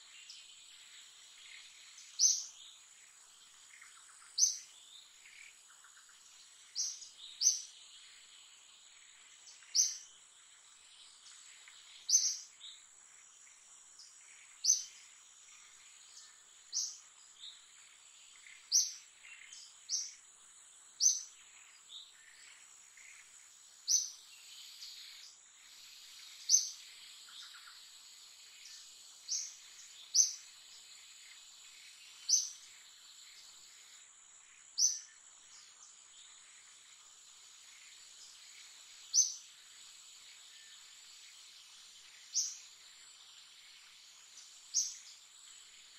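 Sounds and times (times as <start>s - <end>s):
bird chirping: 0.0s - 45.9s
insect drone: 0.0s - 45.9s.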